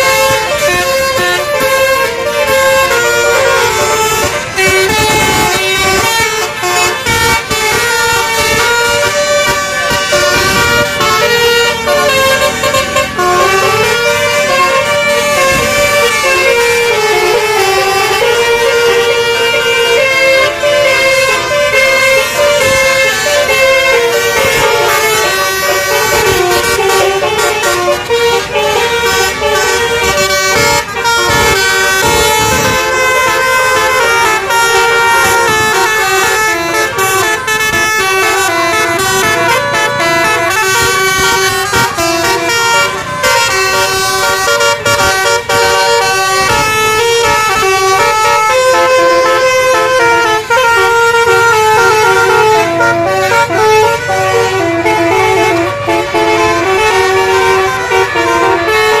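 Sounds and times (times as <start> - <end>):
bus horn playing a tune: 0.0 - 59.0.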